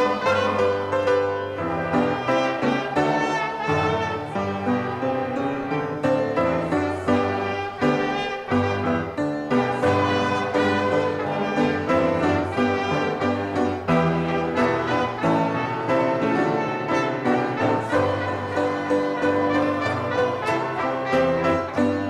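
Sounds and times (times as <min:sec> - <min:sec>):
strings and brass playing hymn: 0:00.0 - 0:22.0.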